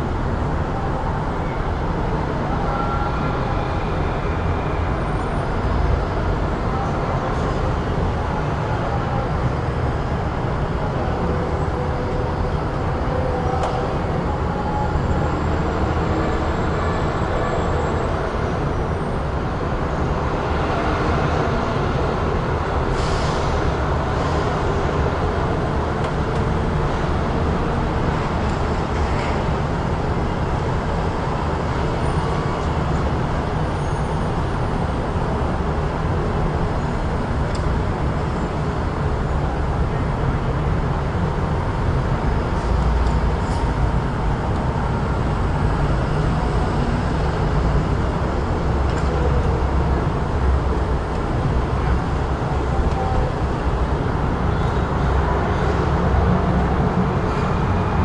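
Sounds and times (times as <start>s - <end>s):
traffic rumble: 0.0s - 58.0s.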